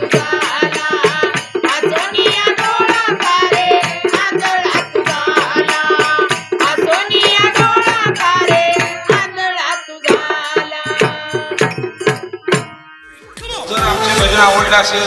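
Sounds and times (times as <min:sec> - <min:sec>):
women singing devotional song: 0:00.0 - 0:14.4
barrel drum beat: 0:00.0 - 0:15.0.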